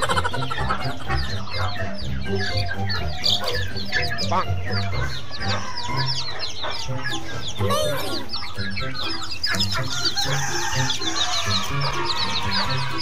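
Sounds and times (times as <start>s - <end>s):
background music with low notes: 0.0s - 13.0s
young chickens peeping: 0.0s - 13.0s.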